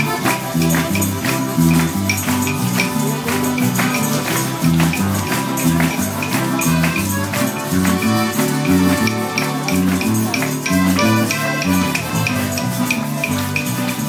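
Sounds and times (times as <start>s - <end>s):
accordion: 0.0s - 14.0s
bass notes: 0.0s - 14.0s
guitars: 0.0s - 14.0s
tambourine: 0.0s - 14.0s.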